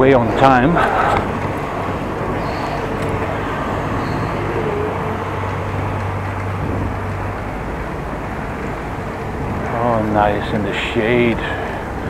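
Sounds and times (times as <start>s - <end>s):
bicycle road noise: 0.0s - 12.0s
low steady hum: 0.0s - 12.0s
wind rushing: 0.0s - 12.0s.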